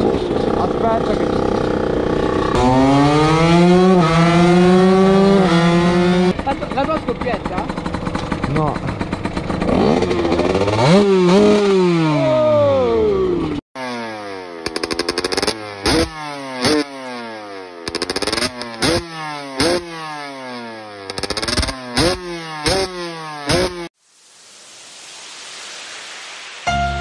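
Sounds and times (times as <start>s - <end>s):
two-stroke engine blipped: 0.0s - 23.9s
motorcycle engines revving: 0.0s - 24.0s.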